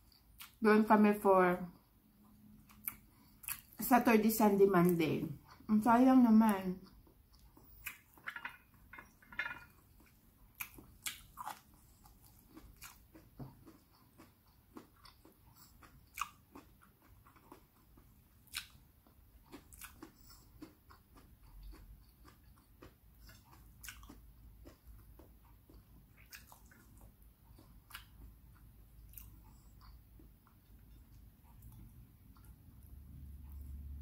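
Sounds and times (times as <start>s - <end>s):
person chewing food: 0.0s - 0.6s, 1.7s - 3.8s, 5.3s - 5.7s, 6.8s - 34.0s.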